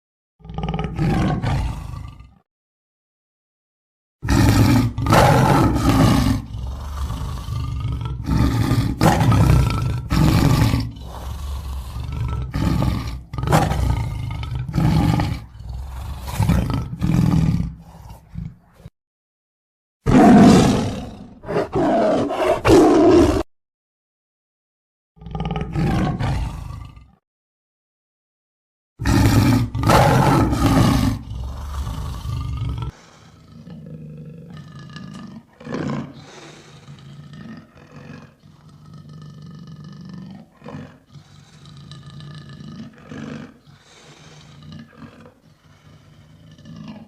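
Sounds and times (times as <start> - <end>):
lion roaring: 0.4 - 2.4, 4.2 - 18.9, 20.1 - 23.5, 25.2 - 27.2, 29.0 - 47.0.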